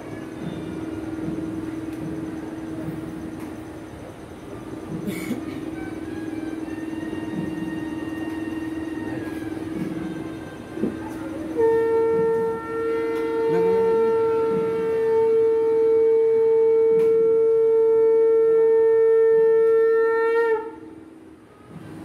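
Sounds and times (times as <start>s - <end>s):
conch shell blown: 0.0s - 3.2s, 4.9s - 22.0s.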